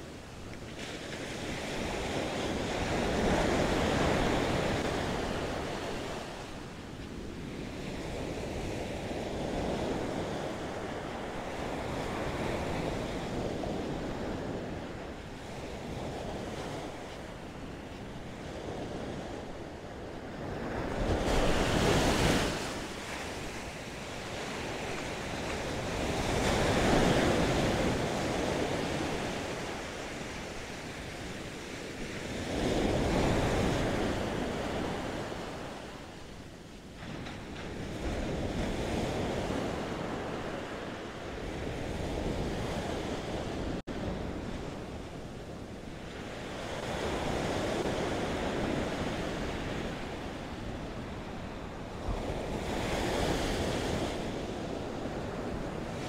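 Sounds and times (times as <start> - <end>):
ocean surf on sandy beach: 0.0 - 56.0.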